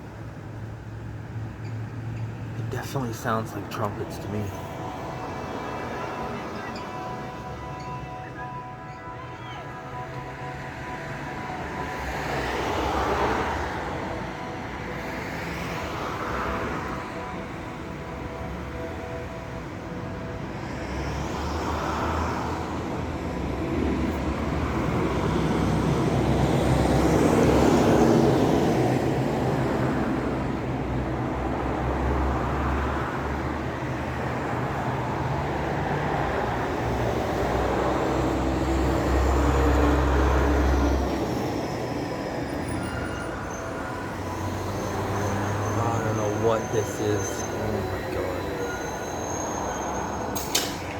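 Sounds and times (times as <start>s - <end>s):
loud wavering trumpet-like drone: 2.7s - 50.9s.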